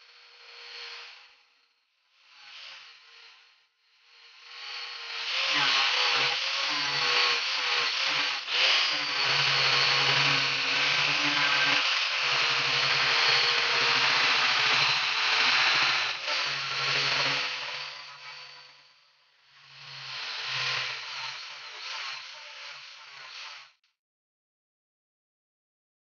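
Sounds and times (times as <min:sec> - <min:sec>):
angle grinder grinding steel: 0:02.2 - 0:23.8.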